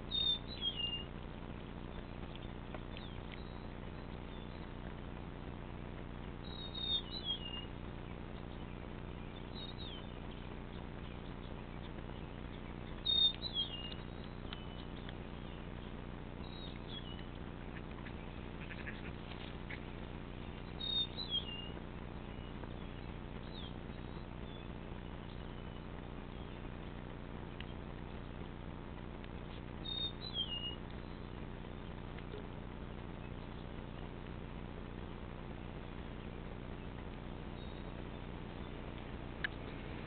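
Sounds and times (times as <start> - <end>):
bird chirping: 0.0 - 5.2, 6.2 - 28.6, 29.4 - 34.2, 35.0 - 40.0
steady low hum: 0.0 - 40.0.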